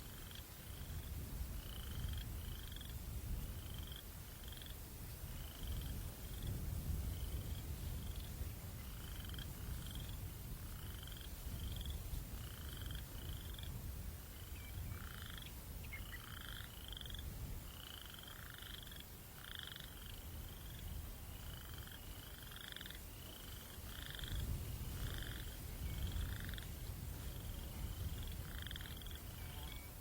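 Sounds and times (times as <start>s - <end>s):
low rumble of breeze: 0.0s - 30.0s.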